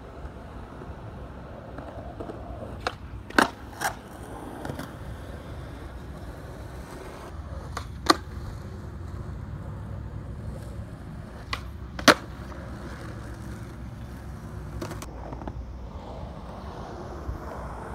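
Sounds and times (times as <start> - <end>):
skateboard clacking on ground: 0.0 - 17.9
skateboard wheels rolling on concrete: 0.0 - 17.9.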